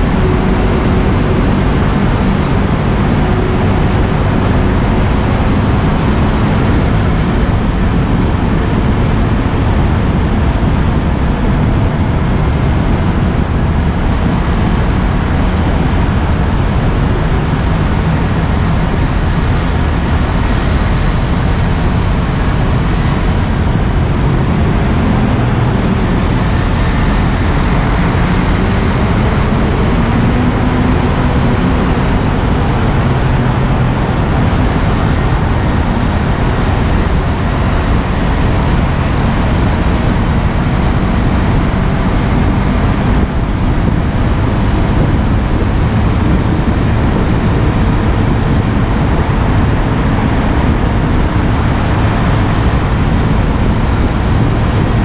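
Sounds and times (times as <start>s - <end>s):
motorcycle engine running: 0.0s - 55.0s
traffic noise in tunnel: 0.0s - 55.0s
wind rushing on microphone: 0.0s - 55.0s.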